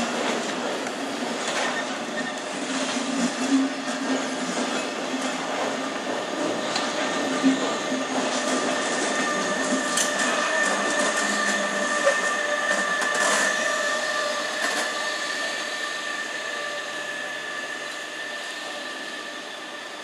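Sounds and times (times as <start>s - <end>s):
electric train whine: 0.0s - 20.0s
wheel and rail noise: 0.0s - 20.0s.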